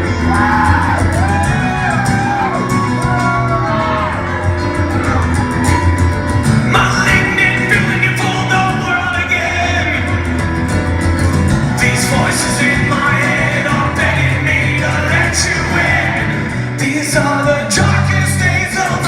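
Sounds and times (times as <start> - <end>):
rock band playing acoustic set: 0.0 - 19.0
singing or lead line: 0.0 - 19.0.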